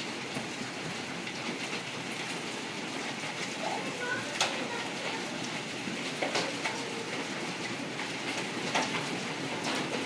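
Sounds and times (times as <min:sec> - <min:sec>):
hail and rain falling: 0:00.0 - 0:10.0
hailstones clicking on hard surfaces: 0:00.0 - 0:10.0.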